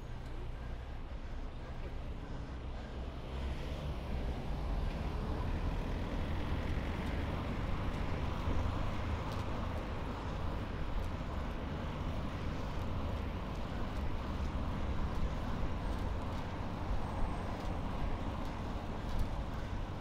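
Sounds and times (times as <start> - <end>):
steady low traffic rumble: 0.0 - 20.0.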